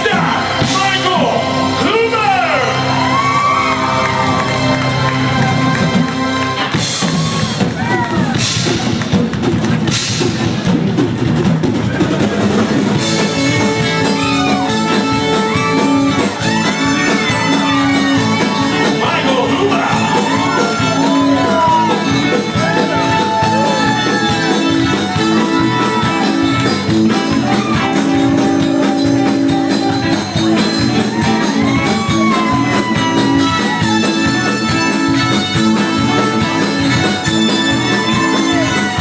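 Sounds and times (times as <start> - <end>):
live band with guitar: 0.0 - 39.0.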